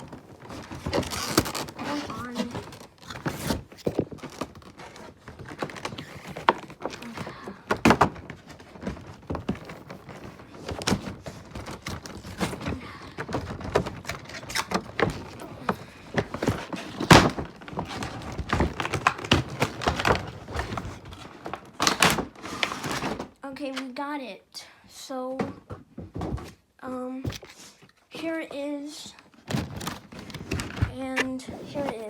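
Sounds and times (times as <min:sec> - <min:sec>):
packaging being handled: 0:00.0 - 0:23.4, 0:29.3 - 0:32.0.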